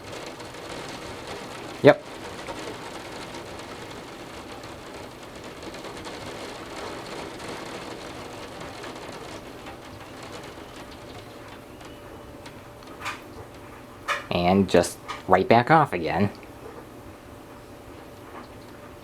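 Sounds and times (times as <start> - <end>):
torrential rain pouring: 0.0 - 19.0.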